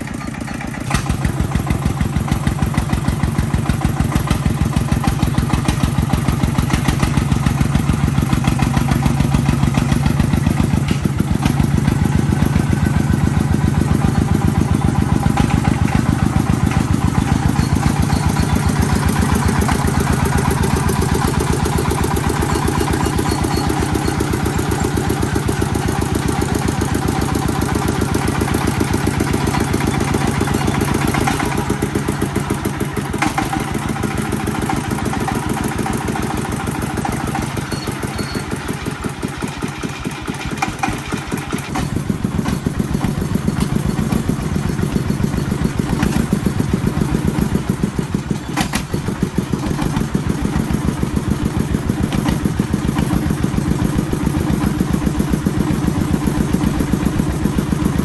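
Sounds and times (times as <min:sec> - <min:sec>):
sharp clicks and knocks: 0:00.0 - 0:58.0
tractor engine chugging: 0:00.0 - 0:58.0.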